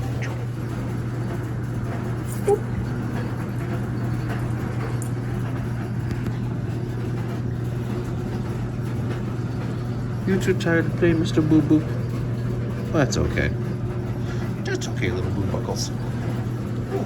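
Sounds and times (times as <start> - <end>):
clothes dryer and washer humming: 0.0 - 17.0.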